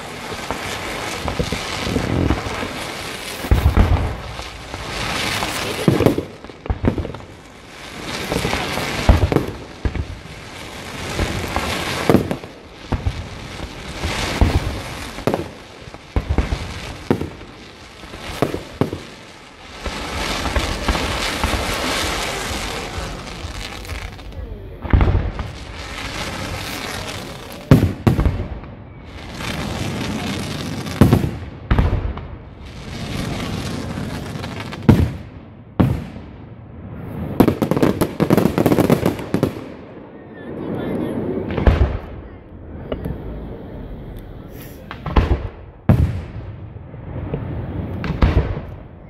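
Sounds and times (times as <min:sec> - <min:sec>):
fireworks bursting: 0:00.0 - 0:49.0
fireworks hiss and crackle: 0:00.0 - 0:49.0.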